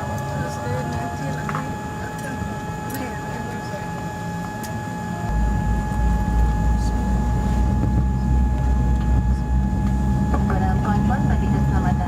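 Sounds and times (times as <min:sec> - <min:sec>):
airliner cabin rumble: 0:00.0 - 0:12.0
faint whining tones: 0:00.0 - 0:12.0.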